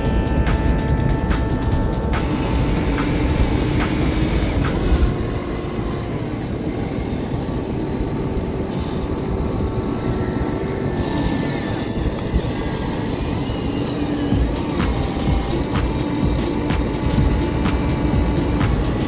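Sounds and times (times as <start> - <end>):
small electric motors whining: 0.0 - 19.0
steady low rumble: 0.0 - 19.0.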